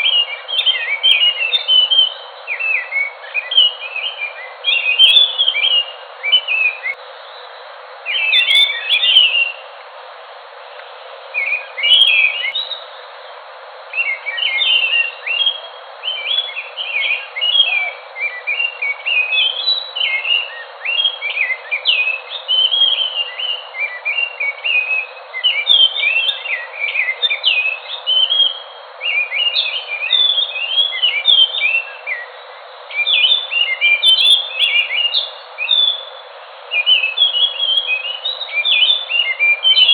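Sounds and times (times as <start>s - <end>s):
thrush singing whistled notes: 0.0s - 9.7s, 10.7s - 39.9s
steady hiss: 0.0s - 39.9s.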